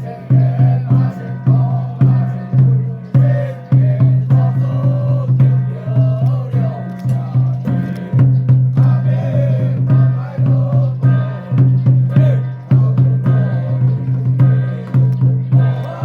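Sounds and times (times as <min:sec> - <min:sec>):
ritual chanting: 0:00.0 - 0:16.0
struck percussion: 0:00.0 - 0:16.0.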